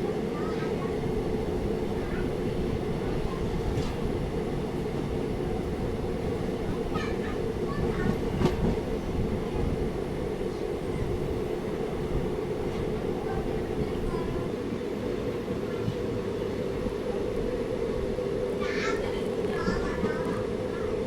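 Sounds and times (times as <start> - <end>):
train rumbling along rails: 0.0 - 21.0.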